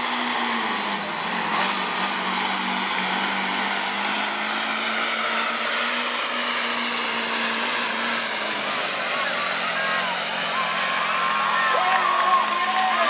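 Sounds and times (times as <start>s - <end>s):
diesel engine at full throttle: 0.0s - 13.0s.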